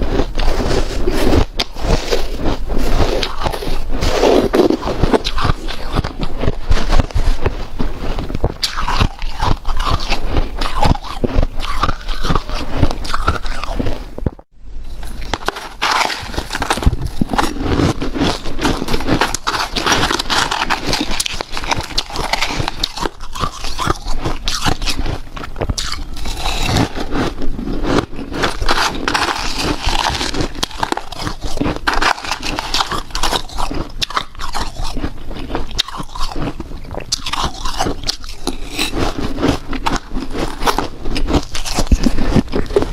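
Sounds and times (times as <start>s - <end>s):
chewing crunchy ice: 0.0s - 42.9s.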